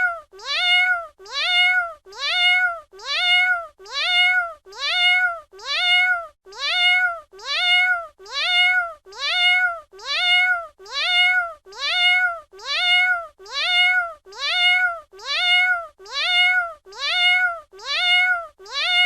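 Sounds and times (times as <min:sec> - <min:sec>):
cat meowing: 0:00.0 - 0:19.0.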